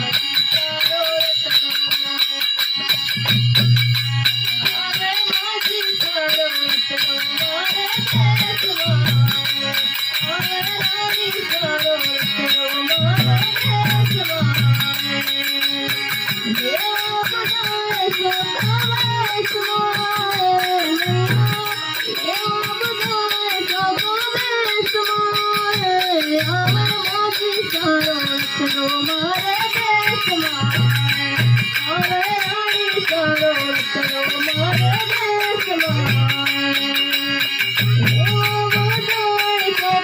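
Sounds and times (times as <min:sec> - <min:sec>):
fast percussion rhythm: 0:00.0 - 0:40.0.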